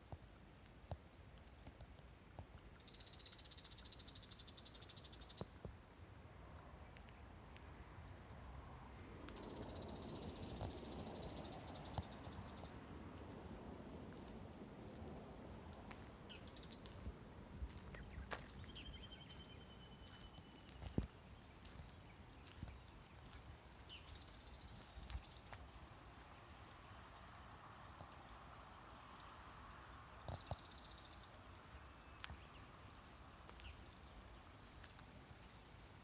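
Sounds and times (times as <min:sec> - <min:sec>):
insect chirping: 0:00.0 - 0:36.0.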